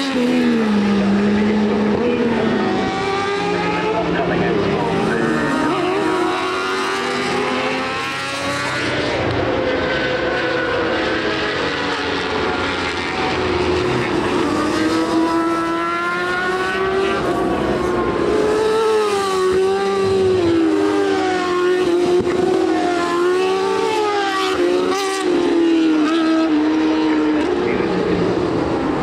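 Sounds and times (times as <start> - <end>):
racing motorcycle engines revving: 0.0 - 29.0.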